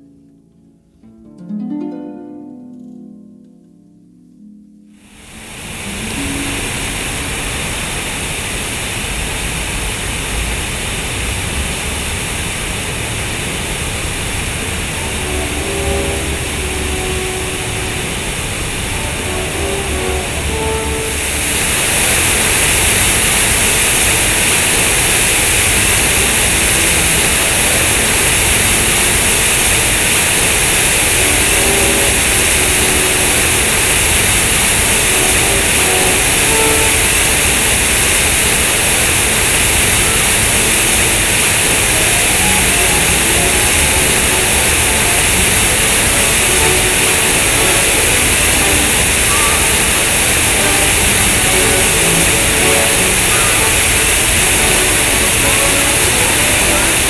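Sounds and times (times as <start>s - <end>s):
fountain water splashing into pool: 5.0s - 57.0s.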